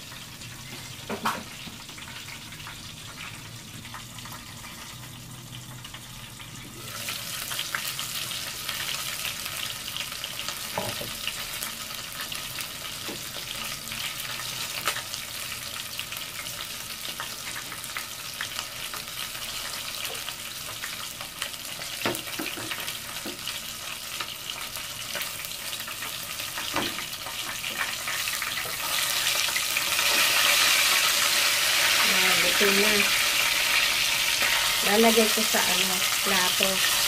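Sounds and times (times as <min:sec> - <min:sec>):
chicken deep-frying in oil: 0:00.0 - 0:37.0.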